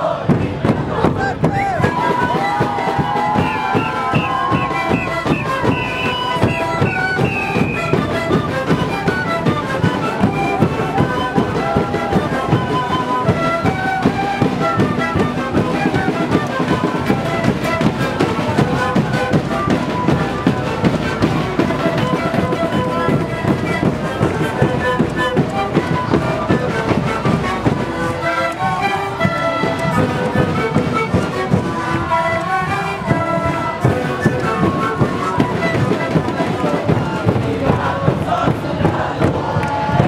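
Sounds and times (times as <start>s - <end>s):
snare drums: 0.0s - 40.0s
panpipes playing a tune: 1.4s - 38.4s.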